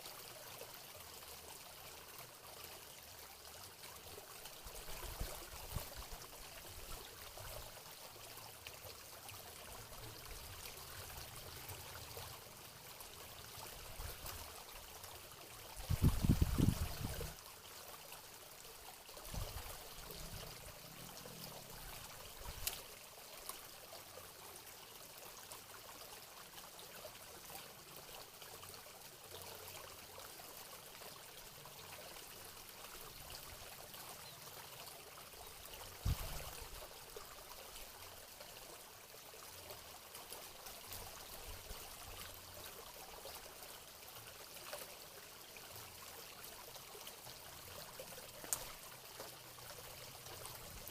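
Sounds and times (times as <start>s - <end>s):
water trickling into pond: 0.0s - 50.9s.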